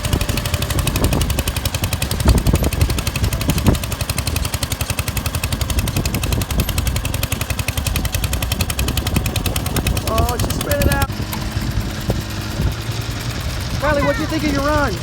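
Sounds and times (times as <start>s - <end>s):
tractor engine running hard: 0.0s - 15.0s.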